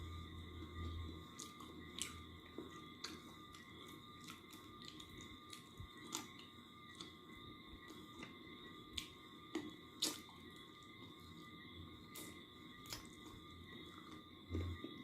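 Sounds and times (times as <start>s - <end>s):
person chewing and eating: 0.5s - 7.2s, 7.8s - 10.4s, 12.1s - 15.0s.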